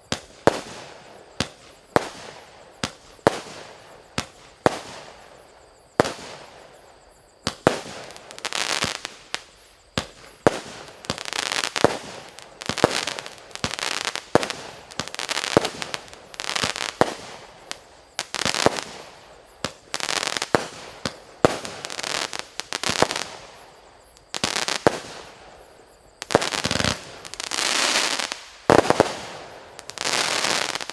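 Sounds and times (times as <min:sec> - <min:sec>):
firework bangs with hiss: 0:00.0 - 0:30.9.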